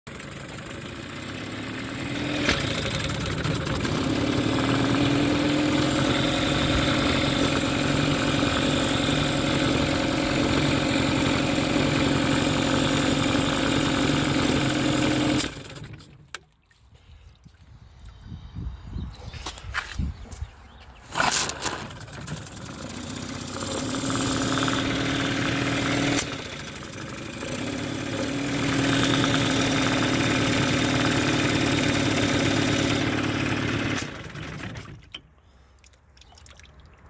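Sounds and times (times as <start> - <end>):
outboard motor running: 0.1 - 16.6, 21.1 - 35.8.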